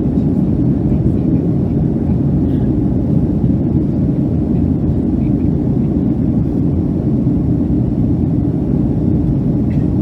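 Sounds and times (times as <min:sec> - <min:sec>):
jet engine cabin rumble: 0:00.0 - 0:10.0.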